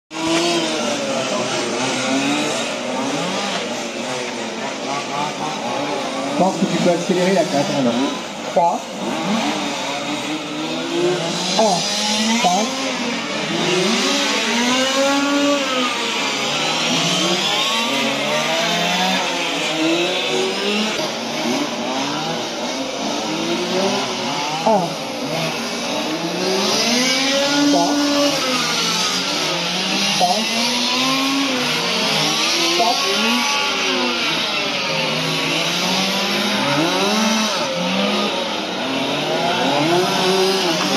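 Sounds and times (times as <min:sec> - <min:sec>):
small two-stroke engines revving: 0:00.1 - 0:40.9.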